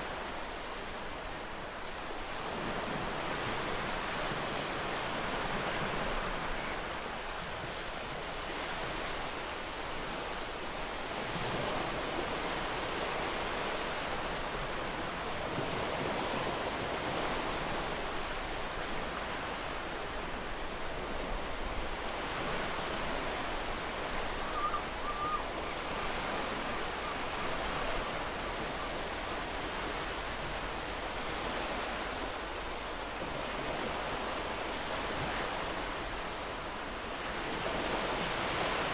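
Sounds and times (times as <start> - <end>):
ocean surf washing ashore: 0.0 - 38.9.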